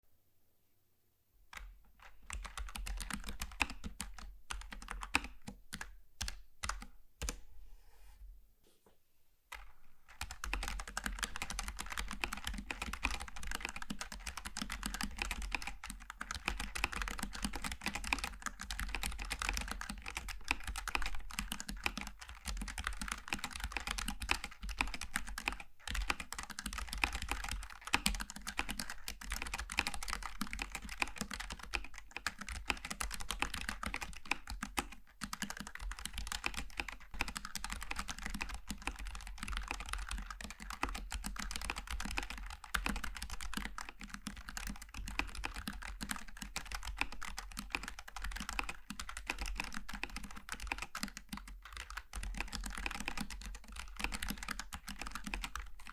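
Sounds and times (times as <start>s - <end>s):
typing on keyboard: 1.5s - 7.4s, 9.5s - 55.9s.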